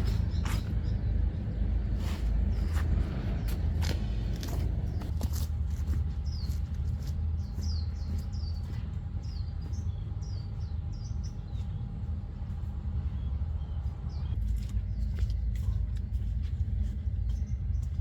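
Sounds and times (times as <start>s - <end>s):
bird chirping: 0.0s - 15.8s
steady low rumble: 0.0s - 18.0s.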